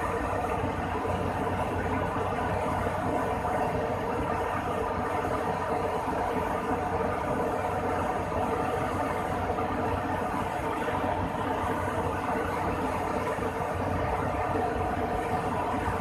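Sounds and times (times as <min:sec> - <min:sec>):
aircraft machinery whir: 0:00.0 - 0:16.0
constant hum: 0:00.0 - 0:16.0.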